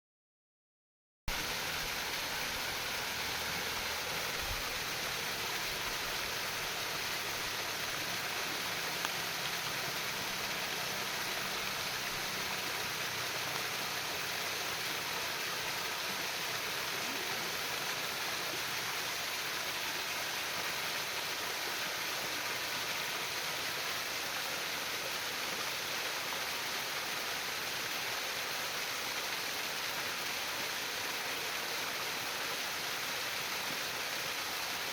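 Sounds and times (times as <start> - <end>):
stream babbling: 1.3 - 34.9.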